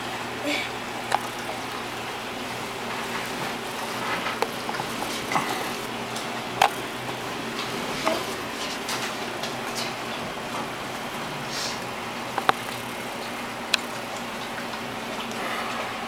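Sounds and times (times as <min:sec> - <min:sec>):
aquarium water hiss and bubbling: 0:00.0 - 0:16.0.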